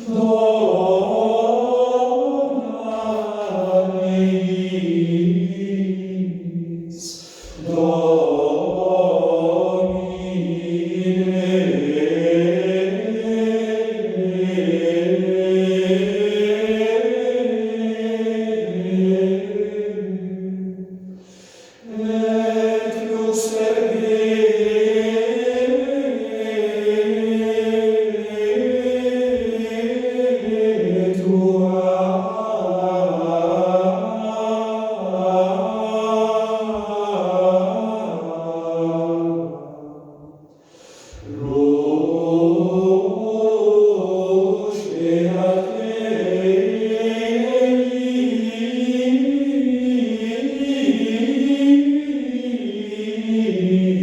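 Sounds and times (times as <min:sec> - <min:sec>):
choir singing over loudspeakers: 0:00.0 - 0:54.0.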